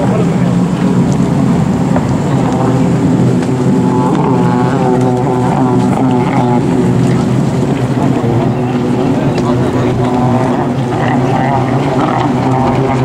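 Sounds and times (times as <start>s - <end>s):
jet ski engines: 0.0s - 13.0s.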